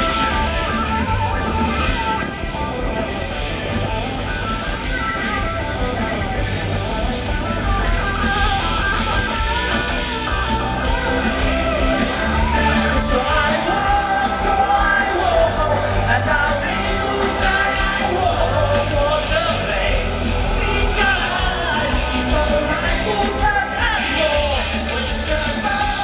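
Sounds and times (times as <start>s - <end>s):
live rock band music: 0.0s - 26.0s
people singing and shouting: 0.0s - 26.0s.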